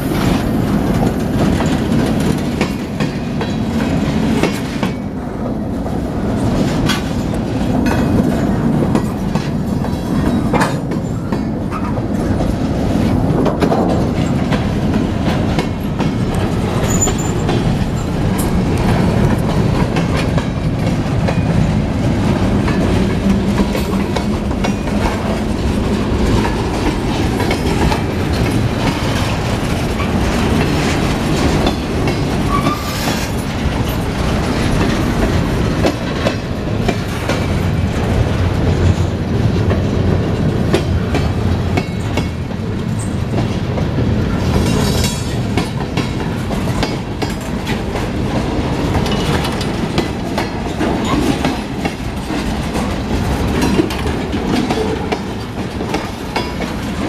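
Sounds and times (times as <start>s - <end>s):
freight train wheels rumbling on rail: 0.0s - 57.0s
wheels clacking over track joints: 0.1s - 57.0s.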